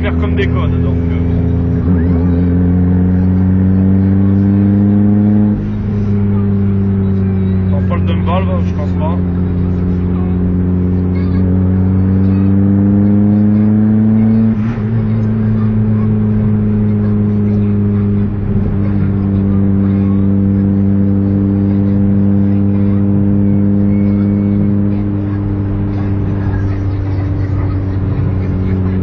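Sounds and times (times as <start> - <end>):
car engine pulling: 0.0 - 29.0.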